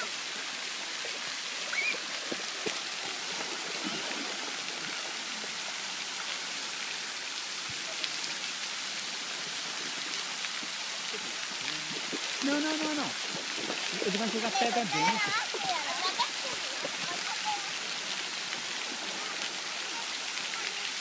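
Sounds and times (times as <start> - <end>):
hiss of falling water: 0.0 - 21.0
small water splashes: 0.0 - 21.0.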